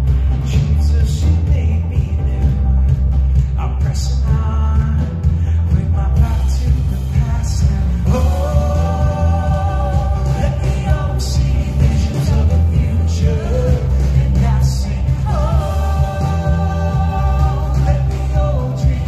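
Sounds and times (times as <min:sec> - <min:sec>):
rock band playing: 0:00.0 - 0:19.0
person singing: 0:00.1 - 0:19.0.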